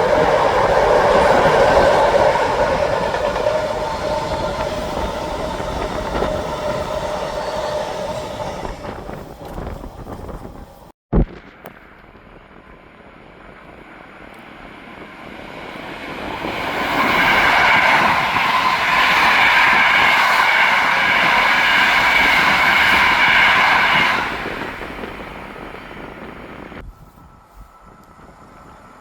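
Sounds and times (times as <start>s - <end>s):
train wheels rumbling on rail: 0.0s - 11.0s, 11.7s - 29.0s.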